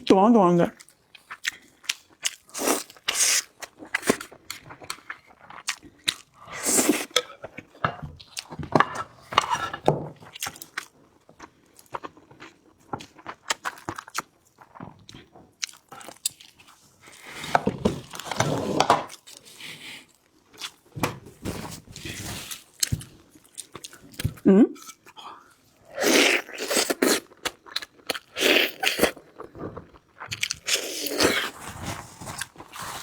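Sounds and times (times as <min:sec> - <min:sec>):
crunching and chewing: 0:00.8 - 0:21.0, 0:22.0 - 0:24.4, 0:25.0 - 0:33.0.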